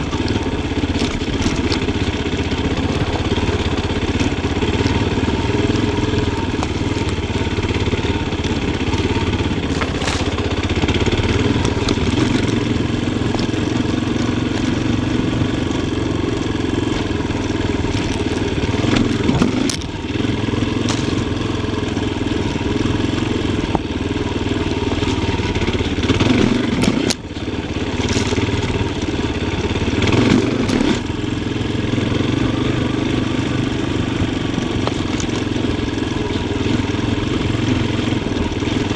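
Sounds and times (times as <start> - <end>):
bike knocking over logs: 0.0 - 24.1, 24.8 - 31.1, 34.2 - 36.8
motorcycle engine revving: 0.0 - 38.9.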